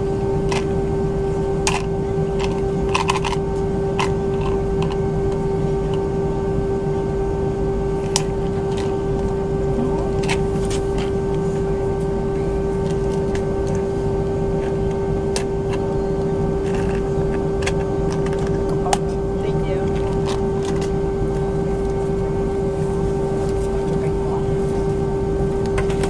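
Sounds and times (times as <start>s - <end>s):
airplane cabin engine drone: 0.0s - 26.0s.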